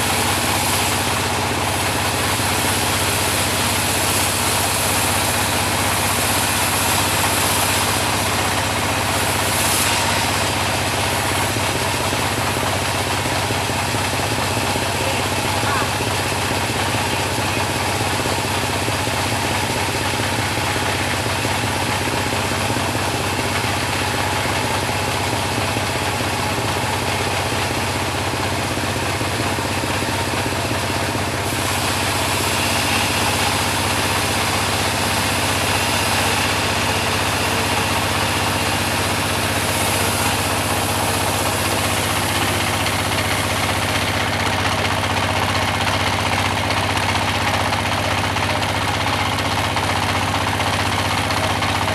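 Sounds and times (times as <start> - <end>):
bandsaw mill humming: 0.0 - 51.9.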